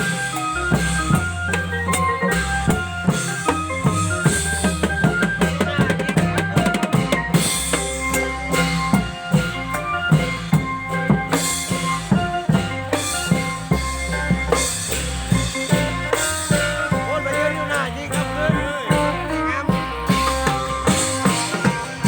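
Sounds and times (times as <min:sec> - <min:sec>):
drum band playing: 0:00.0 - 0:22.0
pitch-bending melody: 0:00.0 - 0:22.0.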